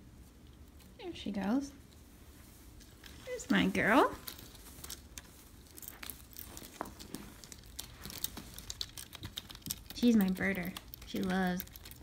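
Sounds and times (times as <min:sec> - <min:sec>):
cat toy rustling and clicking: 0:00.1 - 0:12.0.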